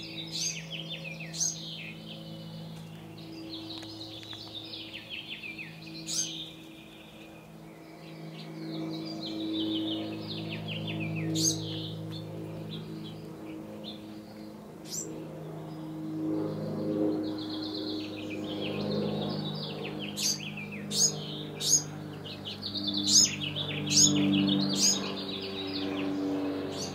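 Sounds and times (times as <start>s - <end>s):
songbirds chirping and singing: 0.0s - 26.9s
steady low hum: 0.0s - 26.9s
sharp bird calls: 3.2s - 15.2s, 17.3s - 26.9s.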